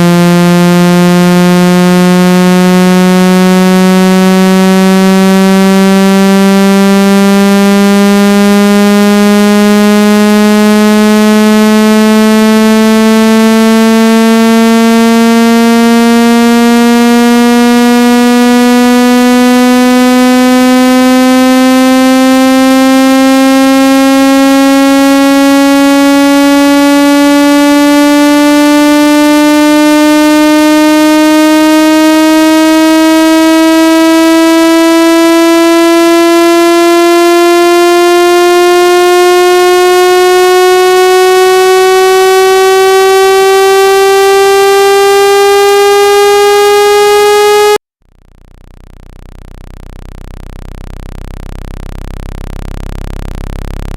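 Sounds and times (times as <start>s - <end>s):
buzzy synthesized tone rising in pitch: 0.0s - 53.9s.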